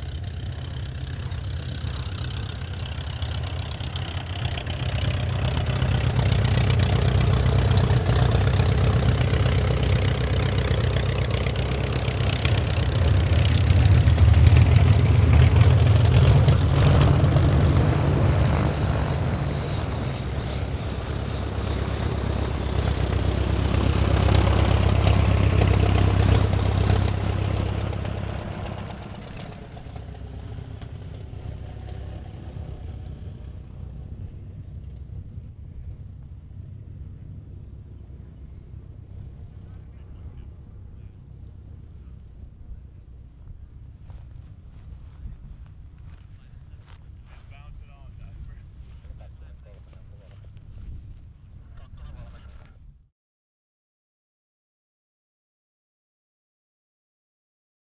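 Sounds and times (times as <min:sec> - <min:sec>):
biplane radial engine and propeller: 0:00.0 - 0:52.9.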